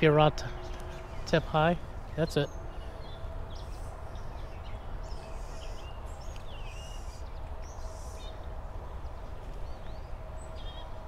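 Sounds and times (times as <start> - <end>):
songbirds chirping: 0.0 - 11.0
steady low rumble: 0.0 - 11.0.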